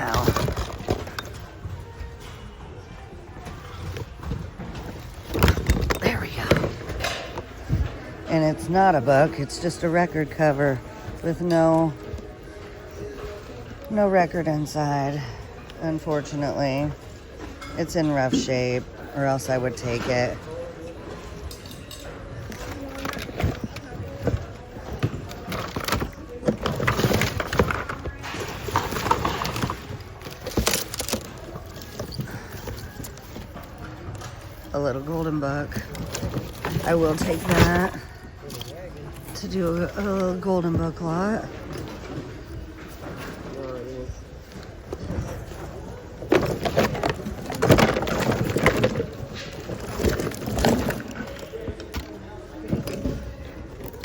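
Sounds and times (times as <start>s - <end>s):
hands rummaging through goods: 0.0s - 54.0s
items knocking and clattering: 0.0s - 54.0s.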